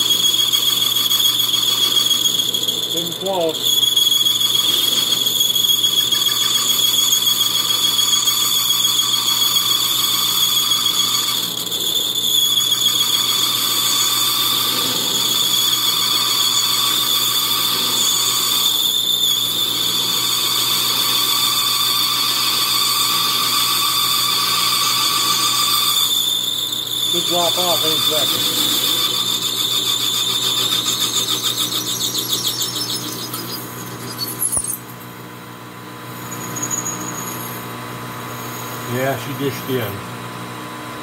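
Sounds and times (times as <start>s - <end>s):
high-pitched cutting squeal: 0.0s - 35.1s, 36.1s - 40.0s
metal lathe running: 0.0s - 35.1s.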